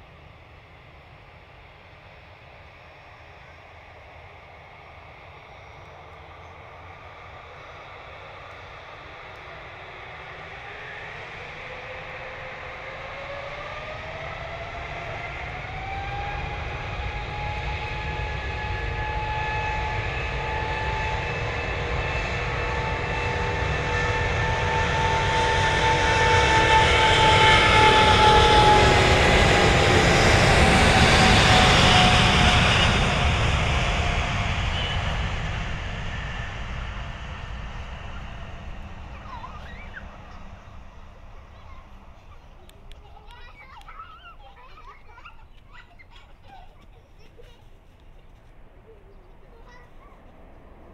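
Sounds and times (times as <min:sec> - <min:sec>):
jet engines whining and roaring: 0:00.0 - 0:50.9.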